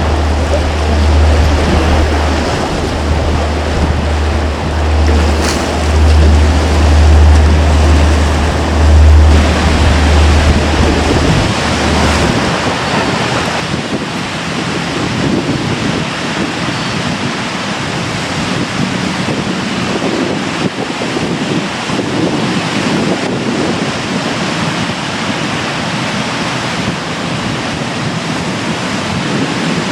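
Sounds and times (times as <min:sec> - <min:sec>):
stormy surf breaking: 0:00.0 - 0:29.9
wind on microphone: 0:00.0 - 0:29.9.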